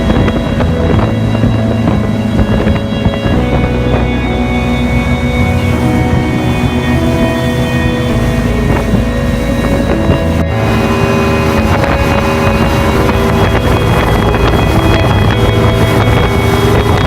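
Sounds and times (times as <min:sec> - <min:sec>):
motorboat engine running: 0:00.0 - 0:17.0
water noise: 0:00.0 - 0:17.0
wind buffeting microphone: 0:00.0 - 0:17.0.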